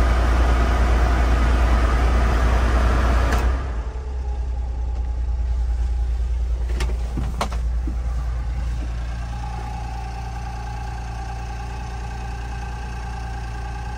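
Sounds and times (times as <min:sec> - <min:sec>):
truck engine idling: 0:00.0 - 0:13.9.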